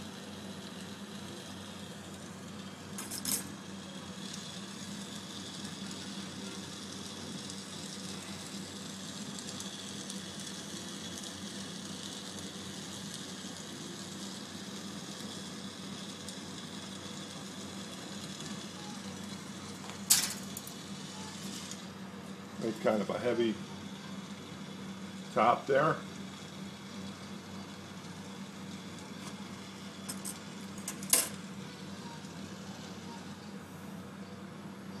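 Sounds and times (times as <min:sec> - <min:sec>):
torch flame hissing: 0:00.0 - 0:35.0.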